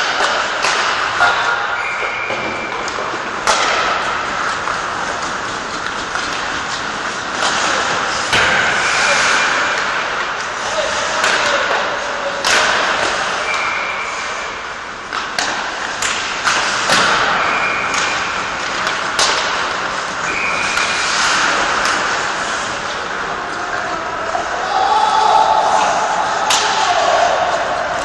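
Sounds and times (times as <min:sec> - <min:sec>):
pucks striking boards: 0:00.0 - 0:28.0
skates scraping ice: 0:00.0 - 0:28.0
sticks hitting puck: 0:00.0 - 0:28.0.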